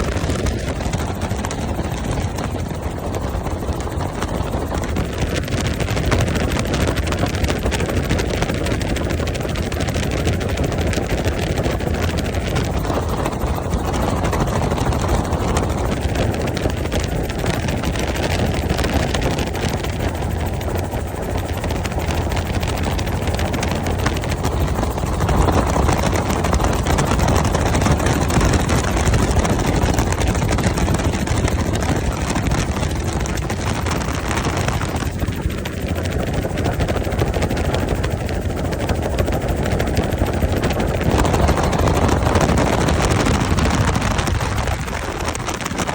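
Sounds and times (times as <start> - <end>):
helicopter rotor and engine: 0.0 - 45.9.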